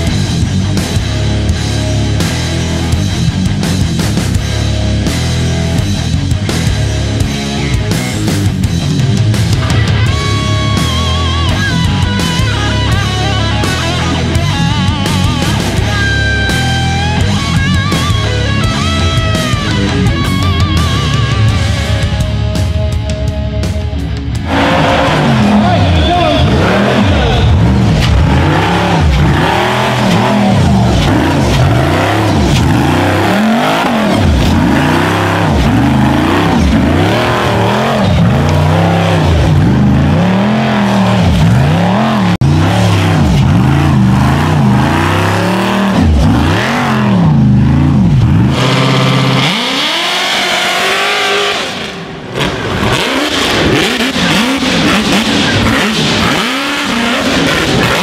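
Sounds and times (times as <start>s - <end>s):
buggy engine revving hard: 0.0s - 22.7s, 24.3s - 58.0s.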